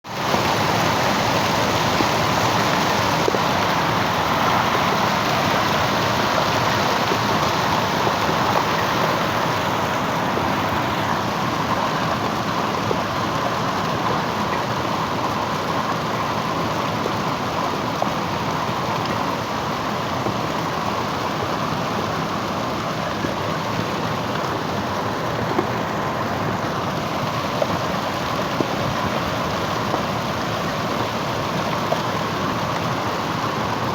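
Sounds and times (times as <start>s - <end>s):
hail and rain pelting down: 0.1s - 33.9s.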